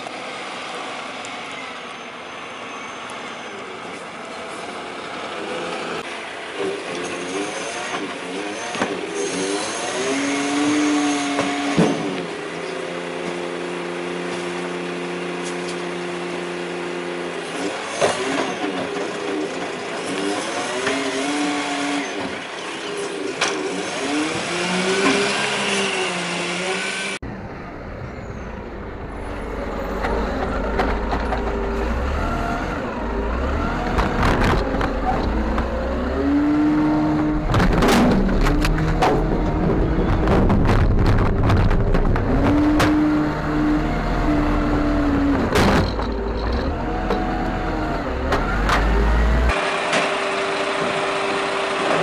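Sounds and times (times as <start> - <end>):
rubbish truck engine revving: 4.8 - 27.2, 28.6 - 52.0.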